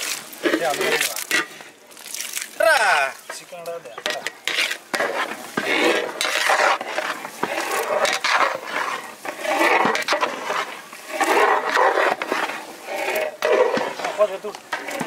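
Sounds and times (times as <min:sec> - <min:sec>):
metal ladle scraping a pot: 0:00.0 - 0:01.8, 0:03.2 - 0:15.0.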